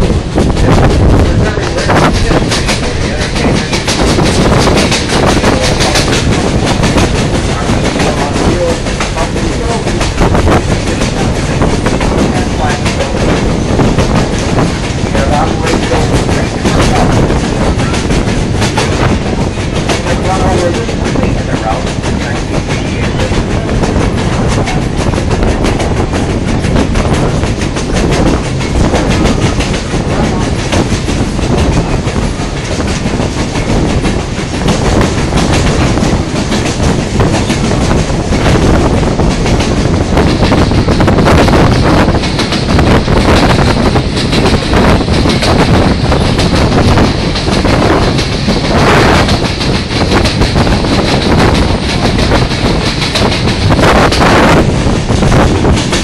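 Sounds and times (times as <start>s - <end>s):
train rumbling: 0.0s - 56.0s
wheels clattering on rails: 0.0s - 56.0s.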